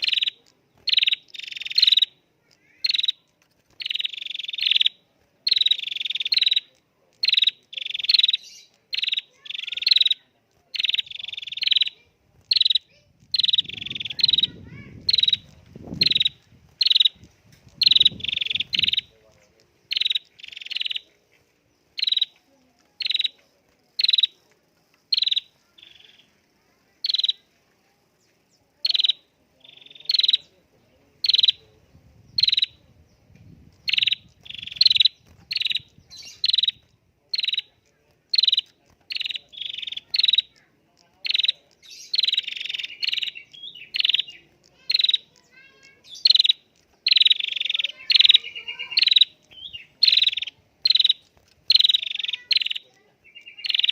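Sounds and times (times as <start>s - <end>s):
bird chirping sharply: 0.0s - 21.1s, 21.7s - 22.4s, 23.0s - 23.4s, 24.0s - 24.5s, 25.1s - 27.5s, 28.4s - 30.6s, 31.2s - 53.9s.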